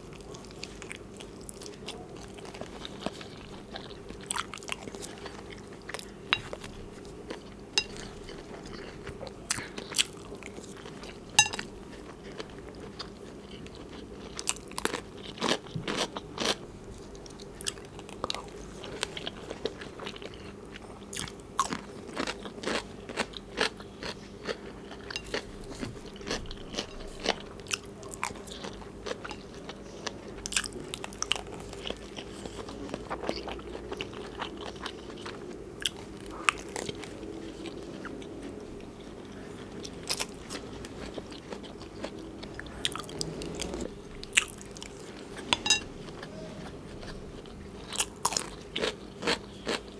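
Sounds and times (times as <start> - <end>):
close-miked chewing: 0.0 - 49.9.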